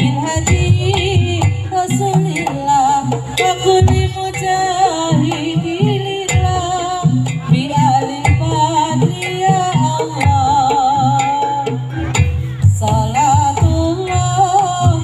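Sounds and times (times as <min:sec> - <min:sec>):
low drum beats: 0:00.0 - 0:15.0.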